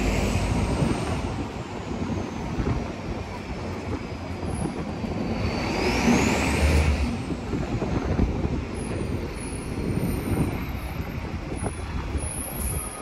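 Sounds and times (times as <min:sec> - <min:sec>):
bus road and engine noise: 0:00.0 - 0:13.0.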